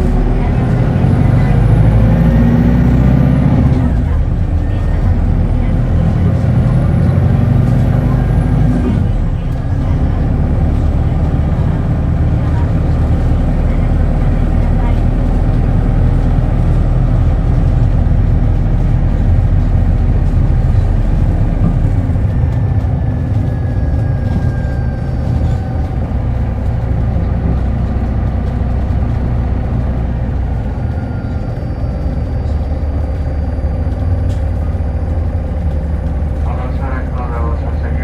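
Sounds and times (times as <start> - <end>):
bus engine running: 0.0 - 38.0.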